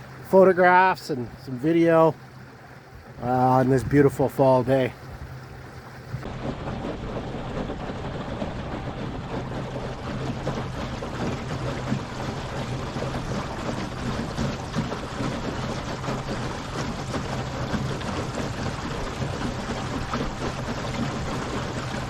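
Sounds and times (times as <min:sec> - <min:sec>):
electric outboard motor humming: 0:00.0 - 0:22.0
water splashing along boat hull: 0:00.0 - 0:22.0.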